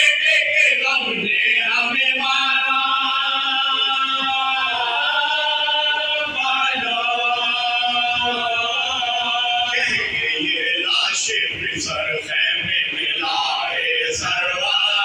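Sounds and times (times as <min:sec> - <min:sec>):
men singing together unaccompanied: 0:00.0 - 0:15.0.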